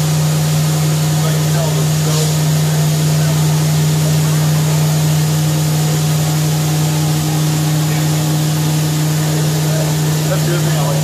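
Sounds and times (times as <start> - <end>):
higher steady tone: 0.0 - 11.0
machining center humming: 0.0 - 11.0.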